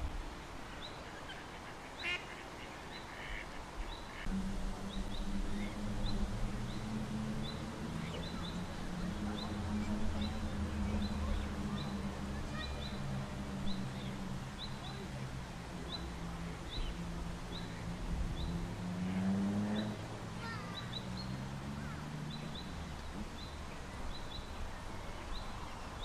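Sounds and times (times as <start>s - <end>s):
small birds chirping: 0.6s - 26.0s
model boat motor humming: 4.3s - 26.0s.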